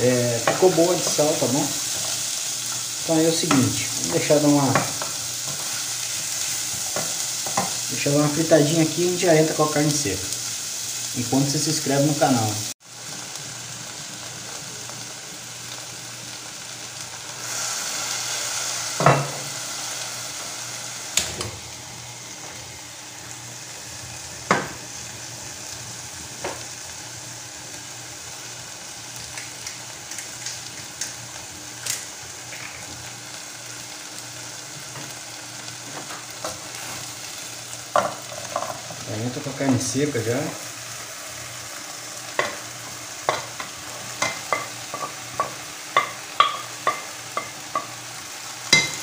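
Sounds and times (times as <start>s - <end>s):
onions sizzling in oil: 0.0s - 49.0s.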